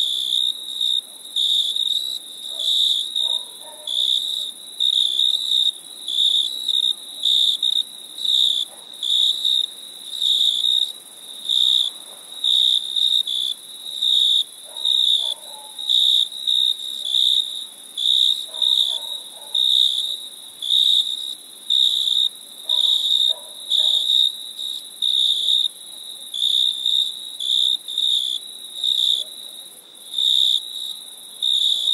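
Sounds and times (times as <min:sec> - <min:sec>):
crickets chirping: 0:00.0 - 0:31.9.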